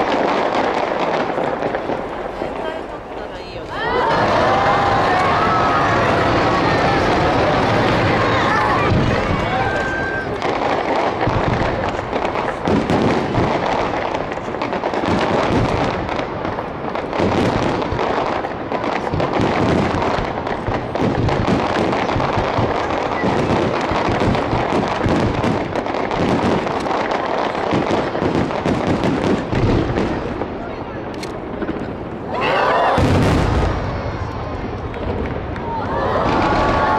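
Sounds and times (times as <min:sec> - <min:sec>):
fireworks bangs and crackle: 0:00.0 - 0:36.9.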